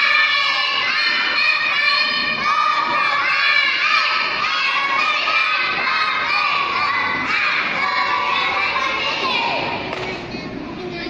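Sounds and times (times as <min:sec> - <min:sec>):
children chanting in unison: 0:00.0 - 0:09.8.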